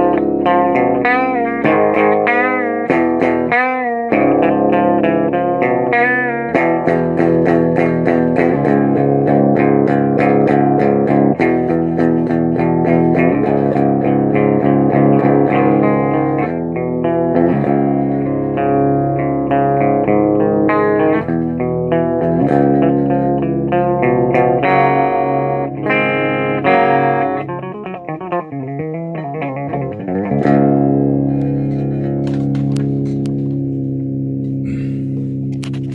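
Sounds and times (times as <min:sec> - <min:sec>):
electric guitar strummed chords: 0:00.0 - 0:35.9.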